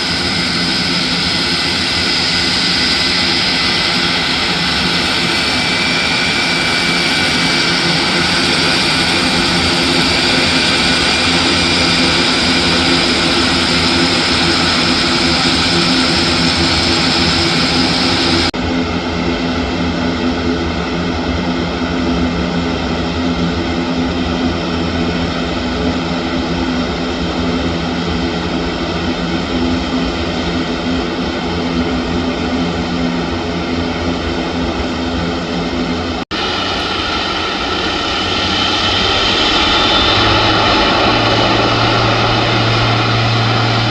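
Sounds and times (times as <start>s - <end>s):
turboprop engines droning: 0.0s - 43.9s.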